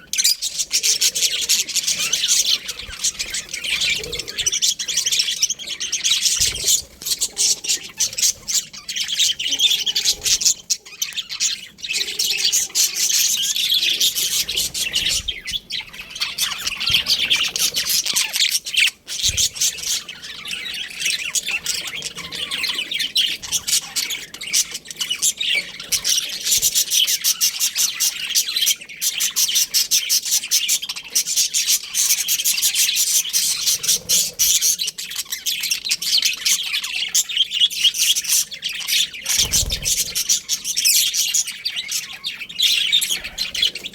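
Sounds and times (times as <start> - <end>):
budgerigars chattering and chirping: 0.0 - 43.9.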